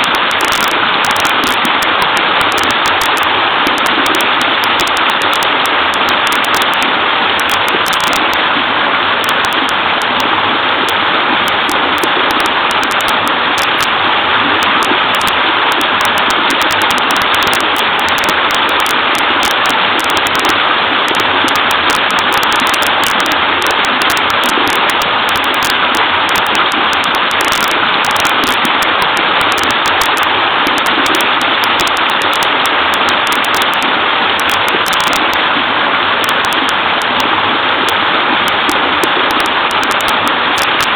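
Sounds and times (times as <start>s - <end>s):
small waterfall pouring: 0.0s - 40.9s.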